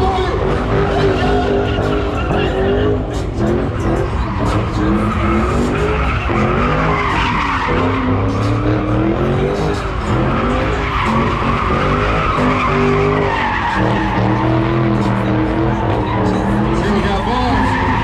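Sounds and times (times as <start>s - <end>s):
car engine revving: 0.0s - 18.0s
tyres squealing: 0.0s - 18.0s.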